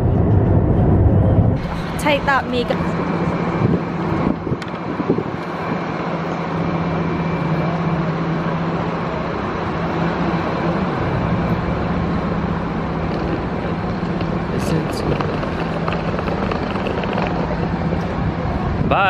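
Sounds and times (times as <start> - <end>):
traffic noise: 0.0 - 19.0
vehicle engine humming: 0.0 - 19.0.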